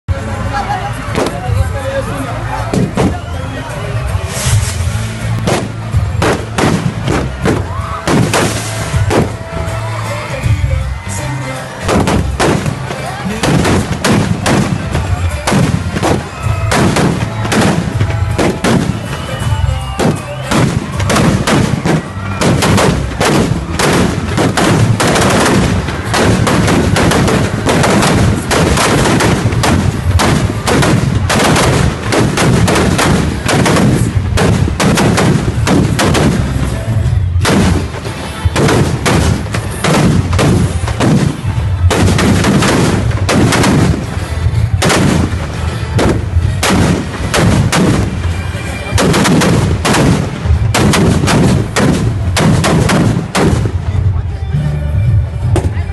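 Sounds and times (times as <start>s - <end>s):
firecrackers going off: 0.2s - 54.4s.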